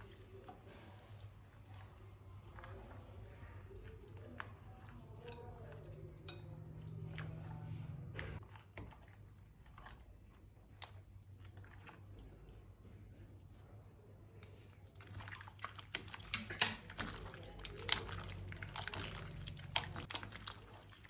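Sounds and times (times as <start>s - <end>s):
wet slime squishing: 0.0s - 21.0s.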